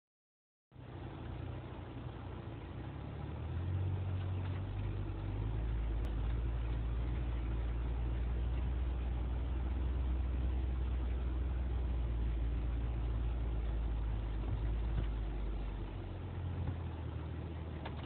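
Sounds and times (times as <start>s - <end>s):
car engine running at low speed: 0.7s - 18.0s.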